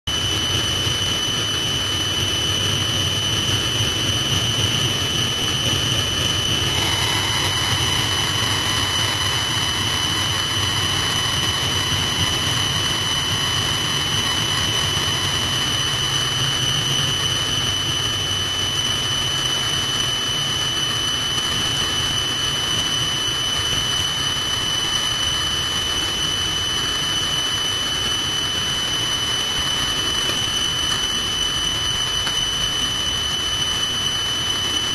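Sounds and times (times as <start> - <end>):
helicopter turbine whine: 0.1 - 34.9
lower whine: 0.1 - 34.9.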